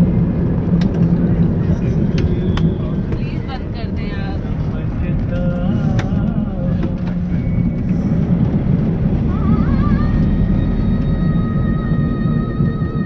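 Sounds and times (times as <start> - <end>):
vehicle driving rumble: 0.0 - 13.0.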